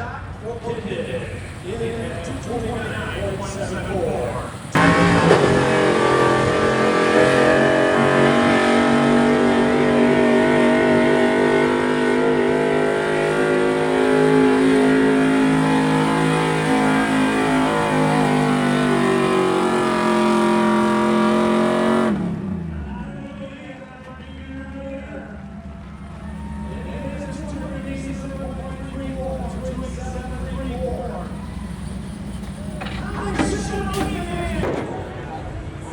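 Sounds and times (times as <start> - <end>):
truck engine at full throttle: 0.0 - 35.9.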